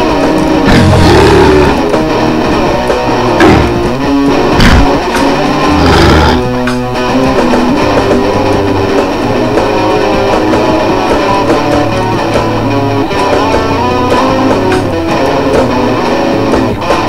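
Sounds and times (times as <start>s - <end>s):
bass line: 0.0s - 17.0s
guitar chords: 0.0s - 17.0s.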